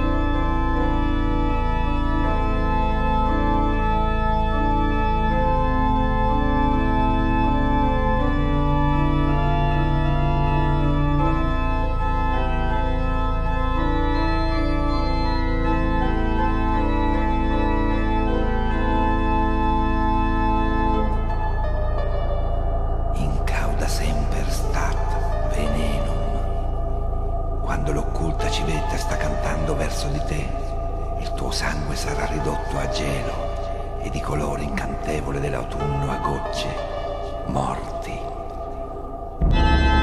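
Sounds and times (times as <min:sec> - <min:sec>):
low drone: 0:00.0 - 0:40.0
organ chords: 0:00.0 - 0:40.0.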